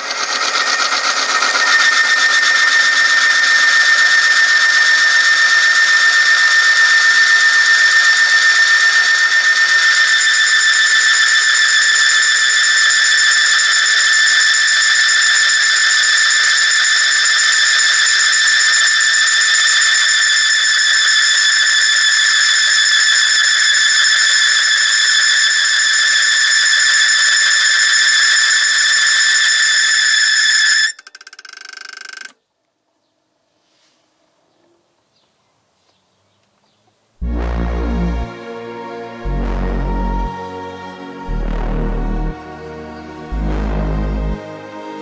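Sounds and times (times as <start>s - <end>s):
higher squealing tones: 1.5s - 31.1s, 37.2s - 45.0s.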